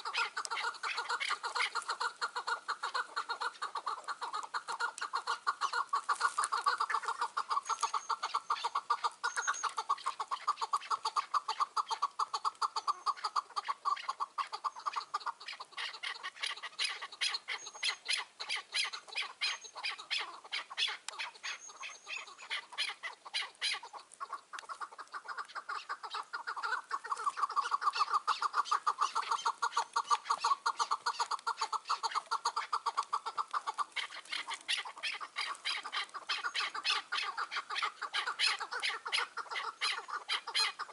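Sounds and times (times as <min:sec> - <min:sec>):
partridge clucking calls: 0:00.0 - 0:40.9.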